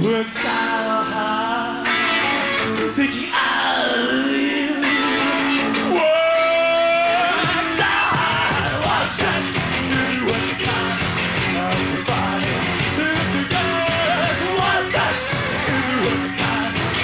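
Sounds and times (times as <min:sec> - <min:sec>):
electric guitar: 0:00.0 - 0:17.0
live rock band playing: 0:00.0 - 0:17.0
man singing and shouting: 0:00.0 - 0:17.0.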